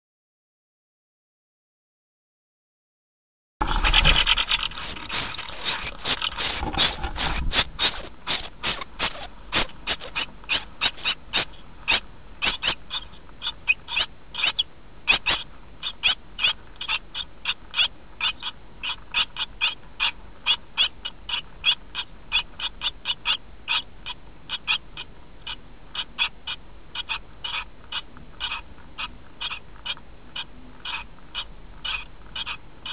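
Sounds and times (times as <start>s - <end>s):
nestlings begging calls: 3.6s - 32.9s.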